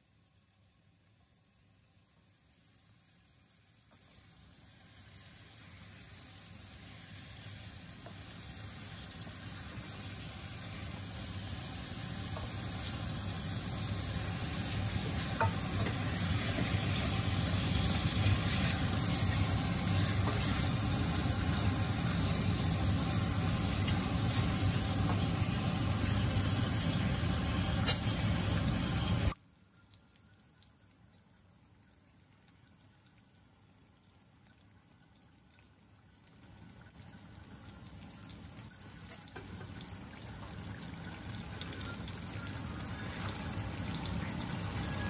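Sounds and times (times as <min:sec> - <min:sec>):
food sizzling in a pan: 0:00.1 - 0:29.4, 0:37.3 - 0:45.0.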